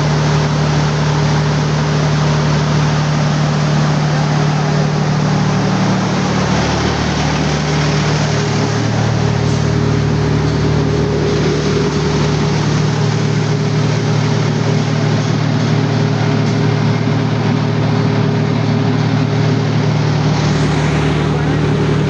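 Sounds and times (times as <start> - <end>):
diesel generator running: 0.0 - 22.0.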